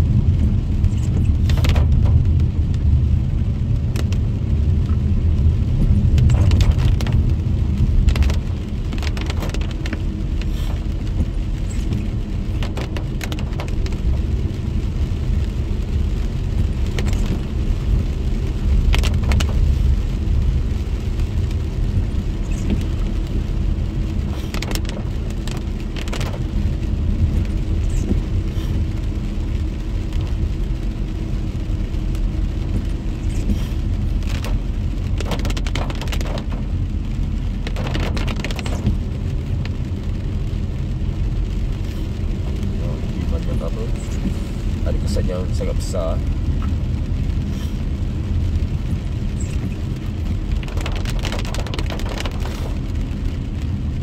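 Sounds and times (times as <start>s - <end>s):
car driving on wet road: 0.0s - 54.0s.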